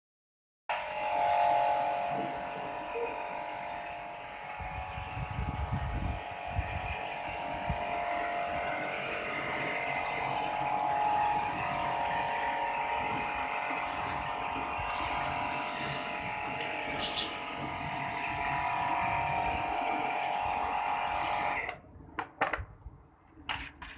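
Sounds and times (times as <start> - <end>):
small electric motor whining: 0.7 - 21.8.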